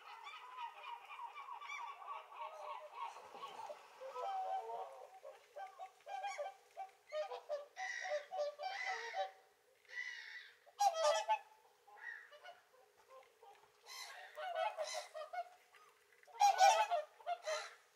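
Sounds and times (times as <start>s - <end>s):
swans honking: 0.0s - 9.4s, 10.0s - 17.9s.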